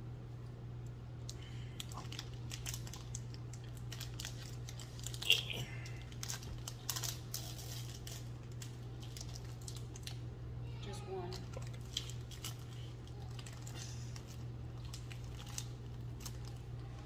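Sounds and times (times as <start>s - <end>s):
plastic wrapper crinkling: 1.3s - 10.3s, 11.2s - 17.0s.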